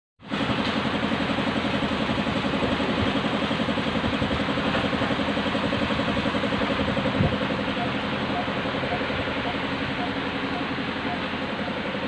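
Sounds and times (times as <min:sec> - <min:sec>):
engine idling: 0:00.2 - 0:12.0.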